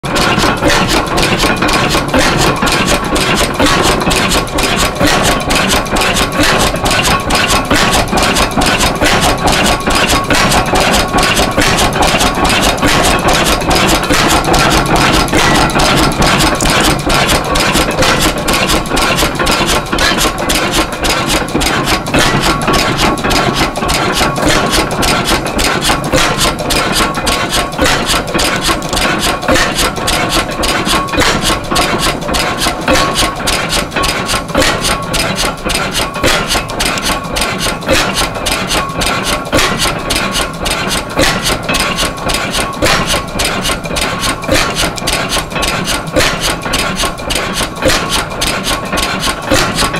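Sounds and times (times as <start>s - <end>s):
pumping engine knocking: 0.0s - 49.9s.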